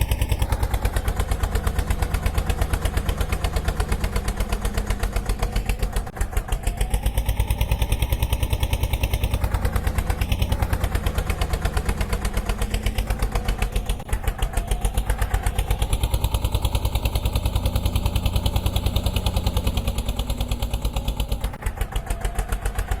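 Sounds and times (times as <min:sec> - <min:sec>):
road roller engine running: 0:00.0 - 0:23.0.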